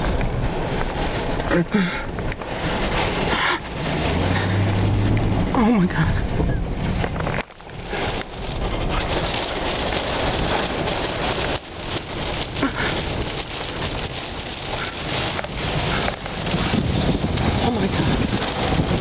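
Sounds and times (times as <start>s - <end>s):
rain: 0.0s - 19.0s
storm wind on microphone: 0.0s - 19.0s.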